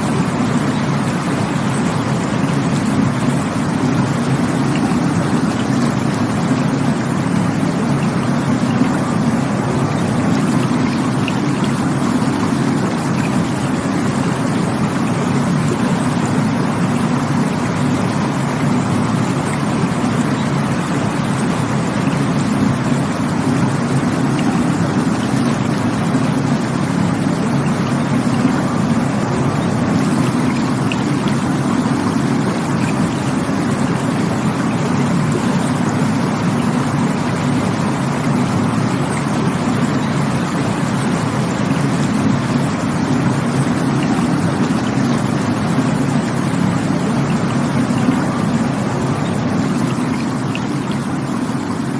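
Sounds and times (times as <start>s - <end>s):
rushing water with low rumble: 0.0s - 51.9s.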